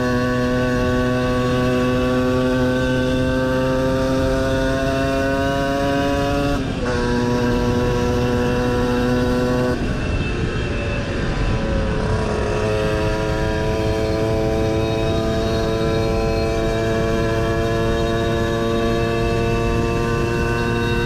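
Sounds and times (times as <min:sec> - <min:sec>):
moped engine revving: 0:00.0 - 0:10.0, 0:11.6 - 0:21.0.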